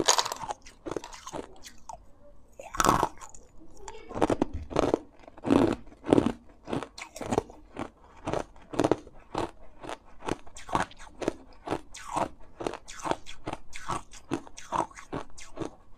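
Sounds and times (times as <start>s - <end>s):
ice crunching between teeth: 0.0s - 2.0s, 2.6s - 3.5s, 4.1s - 15.8s.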